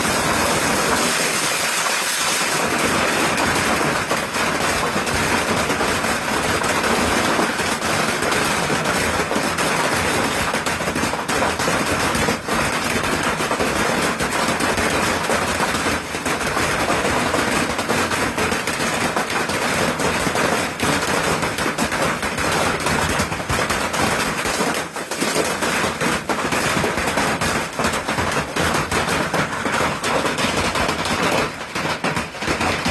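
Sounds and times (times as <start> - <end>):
hail pelting a hard surface: 0.0 - 32.9.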